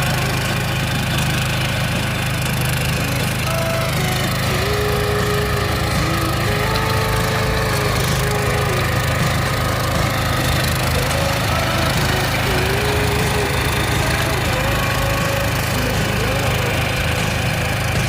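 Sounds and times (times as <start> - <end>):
cultivator engine running: 0.0 - 18.0.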